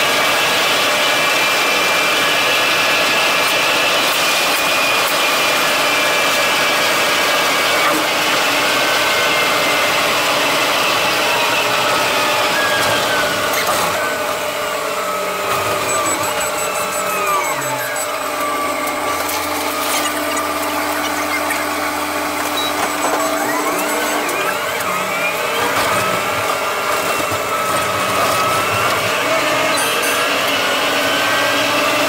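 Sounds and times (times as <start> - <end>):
bus running noise with high whine: 0.0 - 32.0.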